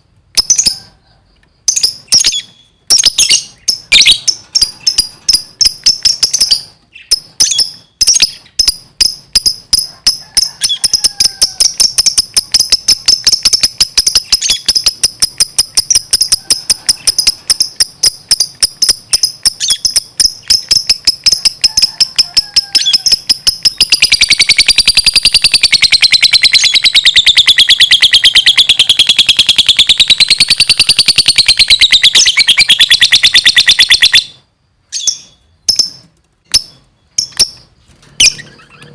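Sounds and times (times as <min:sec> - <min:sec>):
lovebird singing: 0:00.3 - 0:01.0, 0:01.6 - 0:38.9.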